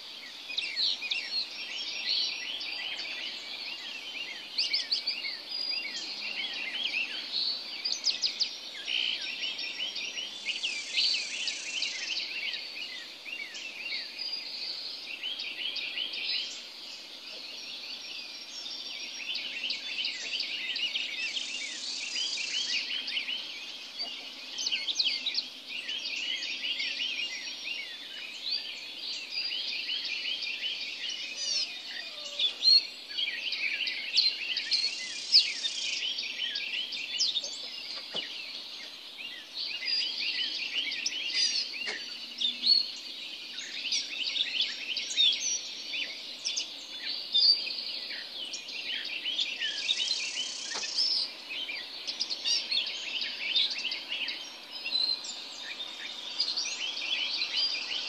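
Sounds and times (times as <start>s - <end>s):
birds chirping and whistling: 0.0s - 58.0s.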